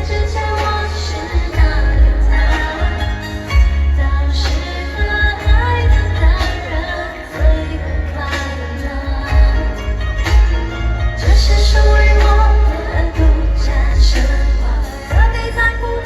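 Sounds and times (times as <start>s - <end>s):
heavy pulsing bass beat: 0.0s - 16.0s
woman singing: 0.0s - 16.0s.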